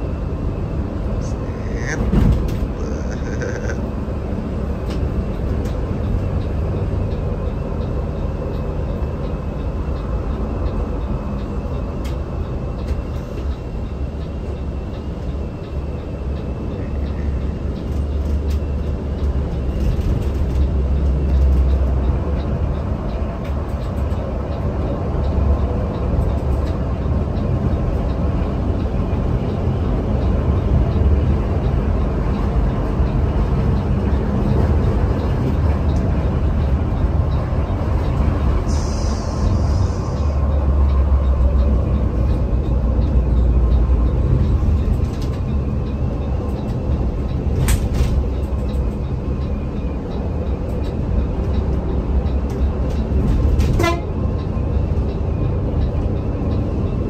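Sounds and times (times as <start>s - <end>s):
coach engine and tyres rumbling: 0.0s - 57.0s.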